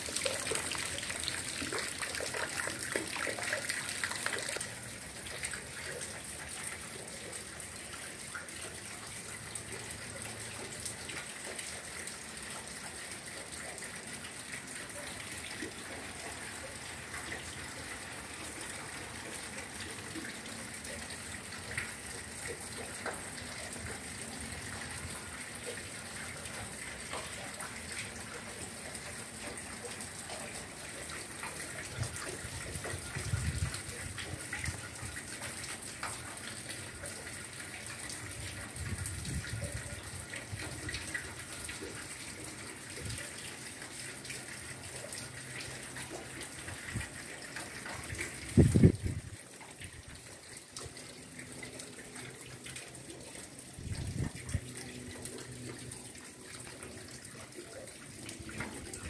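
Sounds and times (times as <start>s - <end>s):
rain on roofs and leaves: 0.0s - 59.0s.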